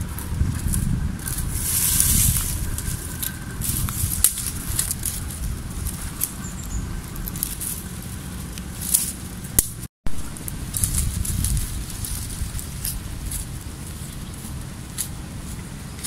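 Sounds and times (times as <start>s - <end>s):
dry sticks crackling and scraping: 0.0s - 16.0s
steady low rumble: 0.0s - 16.0s.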